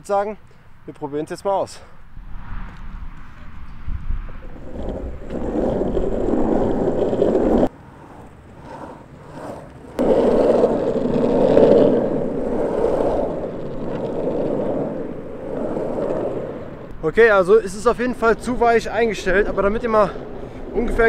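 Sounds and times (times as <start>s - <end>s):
skateboard wheels rolling on asphalt: 2.0s - 21.0s.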